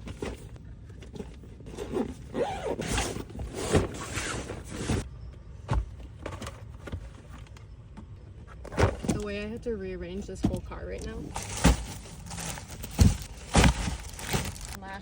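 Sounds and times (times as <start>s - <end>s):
items rustling and scraping: 0.0s - 5.1s, 5.7s - 14.8s.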